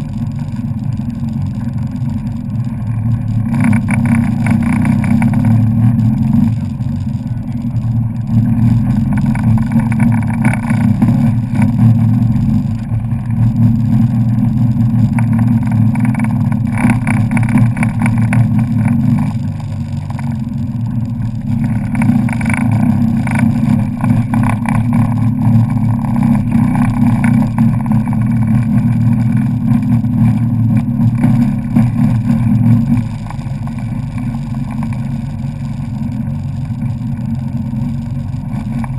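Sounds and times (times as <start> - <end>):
water splashing on hull: 0.0 - 38.9
watercraft engine running: 0.0 - 38.9.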